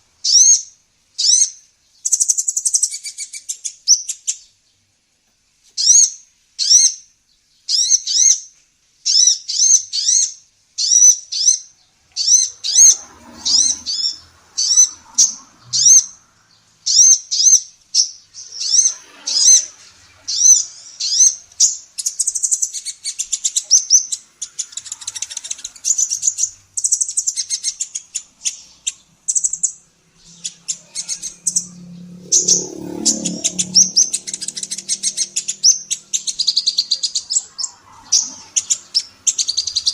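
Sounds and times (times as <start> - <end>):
sunbird chirping and twittering: 0.0 - 4.9, 5.6 - 39.9.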